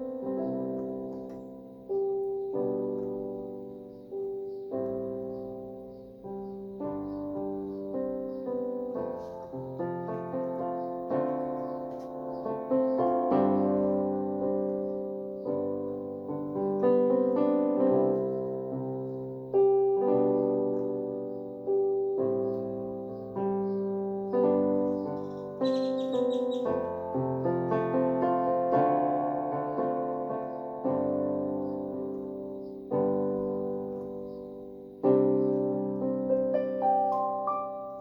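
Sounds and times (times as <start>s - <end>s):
keyboard piano chords: 0.0s - 38.0s.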